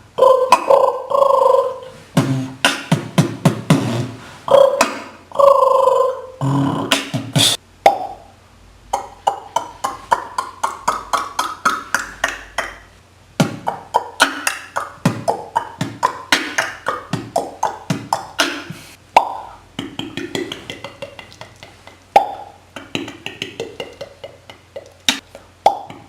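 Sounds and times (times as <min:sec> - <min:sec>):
beatboxing tongue clicks and pops: 0:00.4 - 0:00.9, 0:02.2 - 0:05.2, 0:06.4 - 0:08.3, 0:08.9 - 0:12.8, 0:13.4 - 0:26.0.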